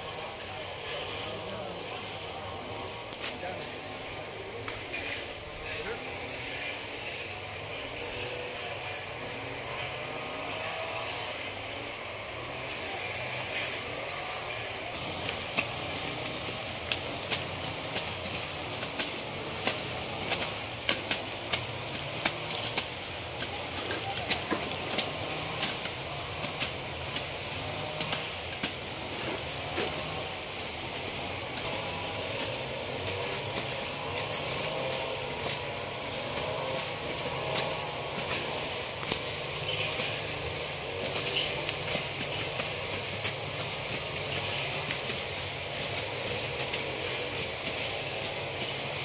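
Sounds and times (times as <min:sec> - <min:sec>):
blades chopping undergrowth: 0:00.0 - 0:49.0
brush cutter engine running: 0:00.0 - 0:49.0.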